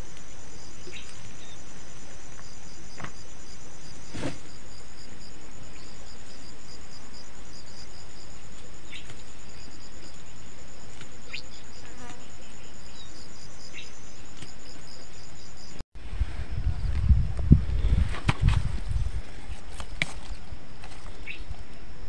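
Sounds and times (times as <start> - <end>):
insects trilling: 0.0 - 15.8, 18.6 - 22.0
pulsing insect chirp: 0.0 - 15.8, 18.6 - 22.0.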